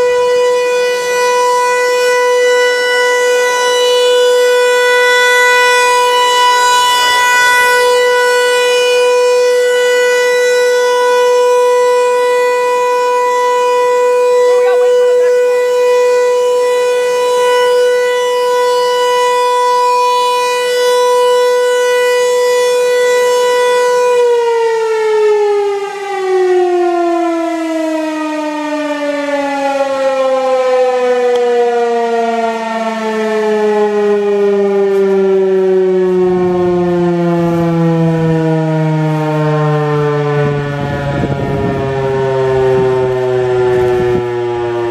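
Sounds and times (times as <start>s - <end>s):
warning siren winding down: 0.0s - 44.9s.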